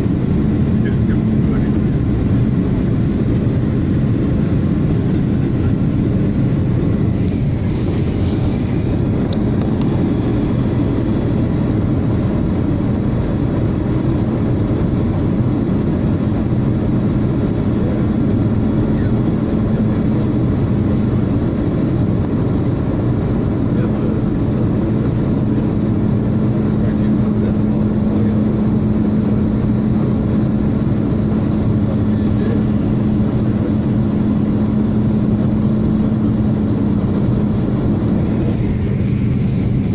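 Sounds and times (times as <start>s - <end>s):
rushing air: 0.0s - 18.8s, 19.7s - 39.9s
jet engine rumble: 0.0s - 39.9s
low hum: 0.0s - 39.9s.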